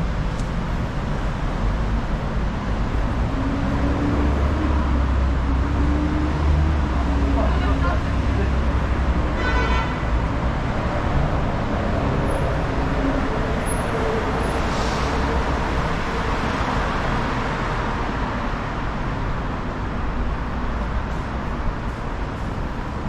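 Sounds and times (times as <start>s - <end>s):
city street traffic: 0.0s - 23.0s
vehicles passing: 0.0s - 23.0s.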